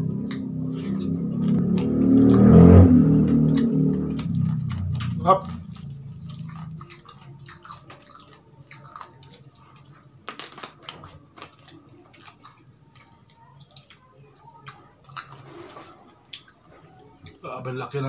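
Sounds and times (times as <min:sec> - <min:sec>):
chewing and biting: 0:00.0 - 0:18.0.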